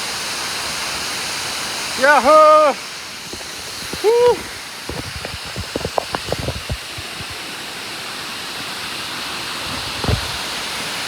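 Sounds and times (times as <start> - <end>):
waterfall pouring into a pool: 0.0 - 11.0.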